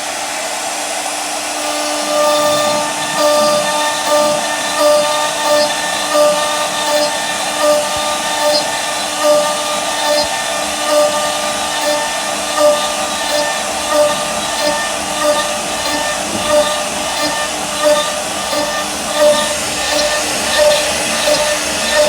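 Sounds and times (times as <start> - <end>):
router spindle cutting wood: 0.0 - 22.0.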